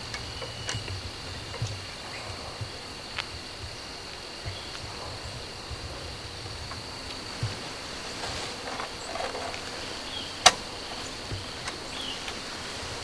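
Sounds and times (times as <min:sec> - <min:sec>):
crickets trilling: 0:00.0 - 0:13.0
low rumble on microphone: 0:00.0 - 0:13.0.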